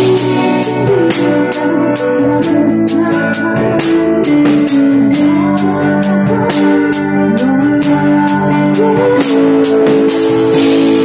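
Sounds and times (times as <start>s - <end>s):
drum kit hits: 0.0s - 11.0s
live band playing: 0.0s - 11.0s.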